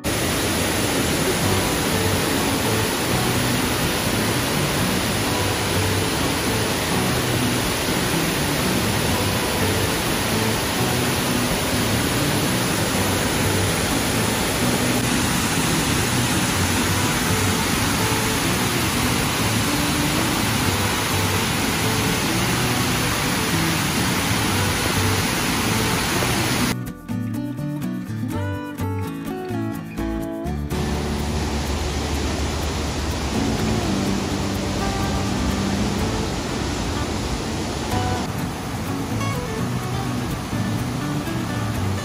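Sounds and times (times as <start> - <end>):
waterfall rushing: 0.0 - 26.8, 30.7 - 42.0.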